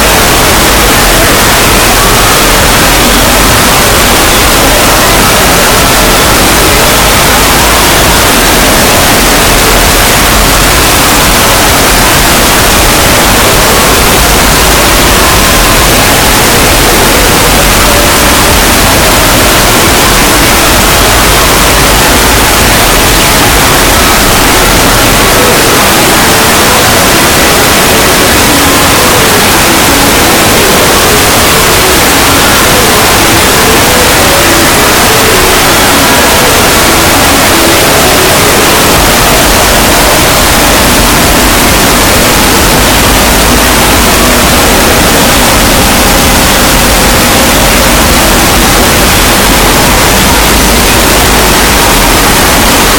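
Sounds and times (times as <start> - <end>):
loud harsh static noise: 0.0 - 52.9.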